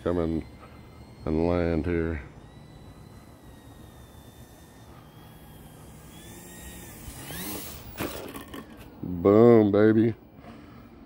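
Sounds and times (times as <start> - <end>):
model plane electric motor whining: 0.0 - 9.3, 10.2 - 11.0.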